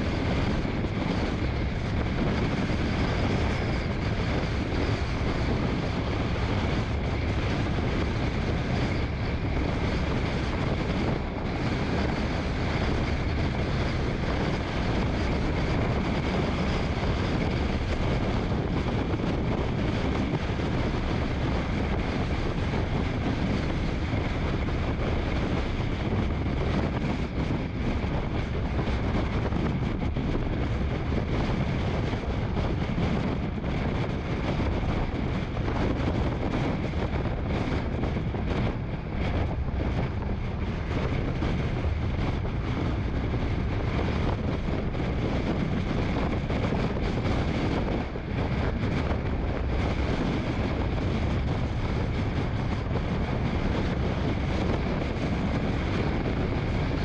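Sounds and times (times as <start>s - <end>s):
wind rushing: 0.0s - 57.0s.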